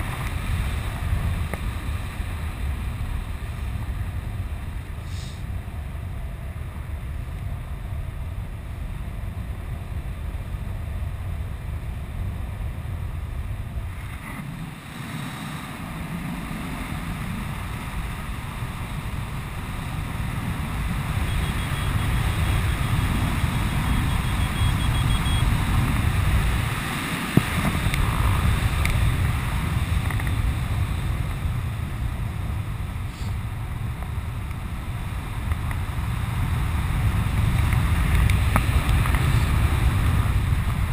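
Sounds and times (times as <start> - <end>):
wind buffeting camera microphone: 0.0 - 40.9.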